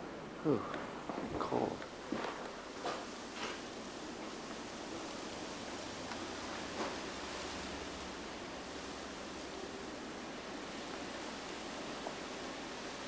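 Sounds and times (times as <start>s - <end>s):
light wind hiss: 0.1s - 13.0s.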